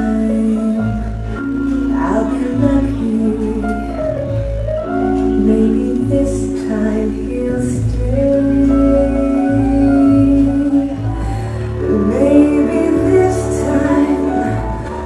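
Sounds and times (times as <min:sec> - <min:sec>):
low bass line: 0:00.0 - 0:15.0.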